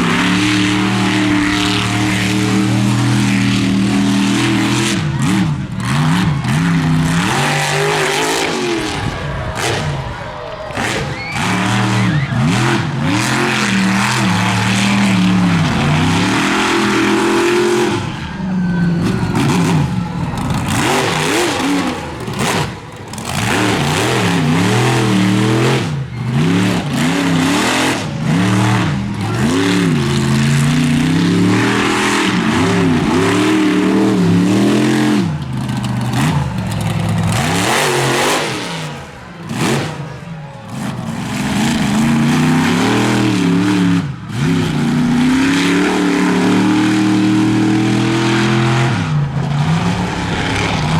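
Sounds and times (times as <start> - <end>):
truck engine revving hard: 0.0 - 50.9.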